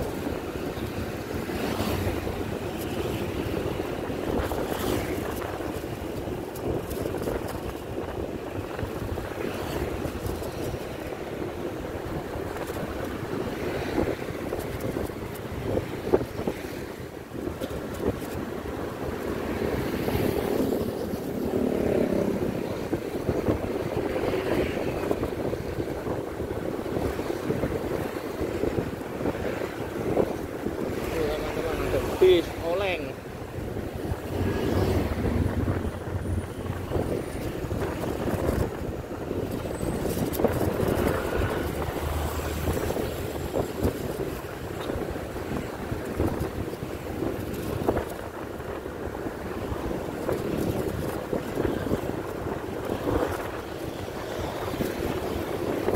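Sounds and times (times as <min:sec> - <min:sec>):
engine and tyre rumble: 0:00.0 - 0:55.9
passing traffic: 0:00.0 - 0:55.9
wind rushing over microphone: 0:00.0 - 0:55.9.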